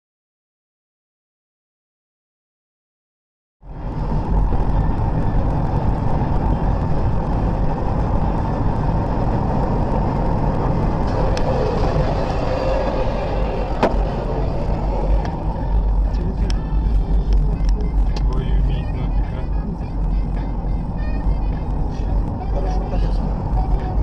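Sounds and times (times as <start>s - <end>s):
car engine and road noise: 3.6s - 24.0s.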